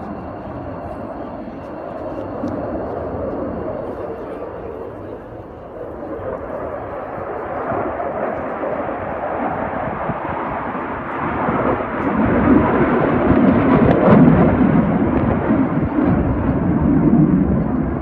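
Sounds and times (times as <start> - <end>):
jet engine rumble: 0.0 - 18.0.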